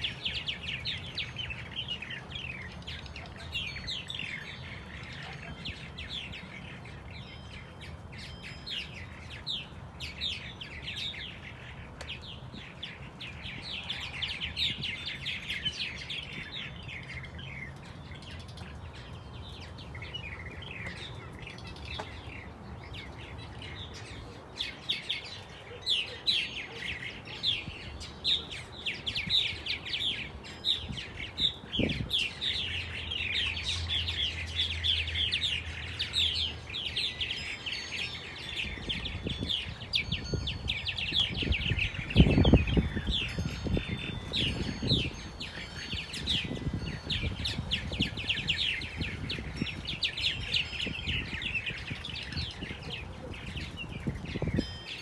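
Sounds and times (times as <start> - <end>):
birds chattering and warbling: 0.0 - 55.0.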